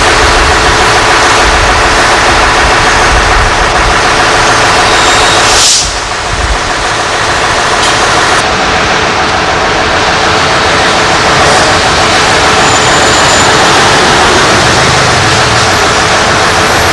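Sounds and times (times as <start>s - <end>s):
diesel truck engines running: 0.0s - 16.9s.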